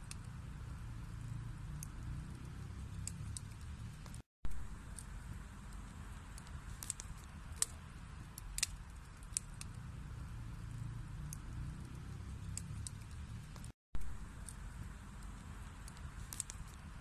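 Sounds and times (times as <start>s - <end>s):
fire flames rumbling: 0.0s - 17.0s
wood fire crackles and pops: 0.0s - 17.0s.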